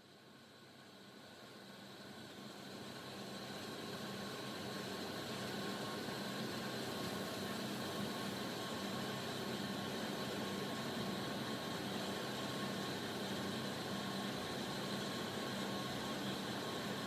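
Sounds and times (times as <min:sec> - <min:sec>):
mechanical hum with high whine: 0:00.0 - 0:17.0.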